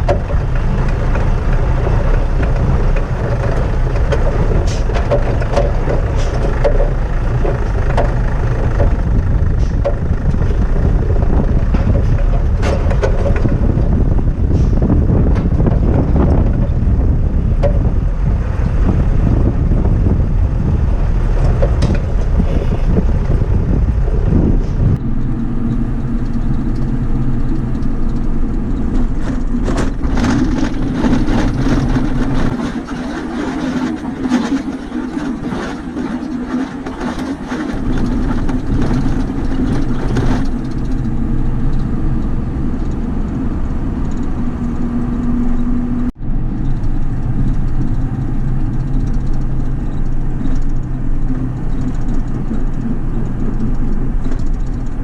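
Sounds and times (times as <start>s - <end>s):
clicks and rattles: 0.0s - 55.0s
truck engine running: 0.0s - 55.0s
wind buffeting microphone: 0.0s - 55.0s.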